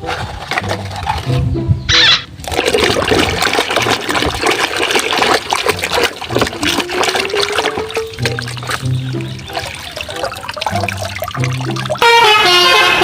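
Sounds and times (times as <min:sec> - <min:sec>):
running water splashing: 0:02.3 - 0:13.0.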